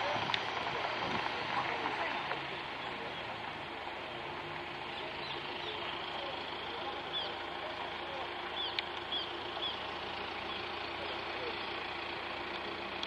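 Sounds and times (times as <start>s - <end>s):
indistinct voices: 0.0s - 13.0s.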